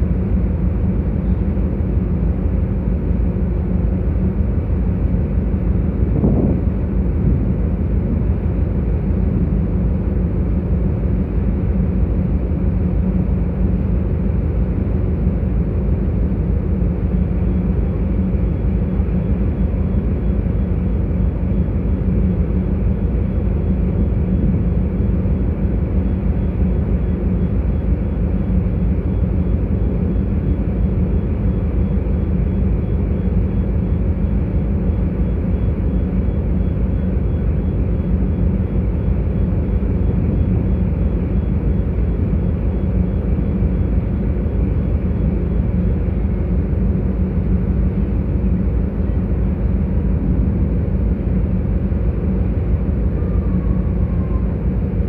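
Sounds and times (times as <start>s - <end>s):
ferry engine drone: 0.0s - 55.0s
water churning along hull: 0.0s - 55.0s.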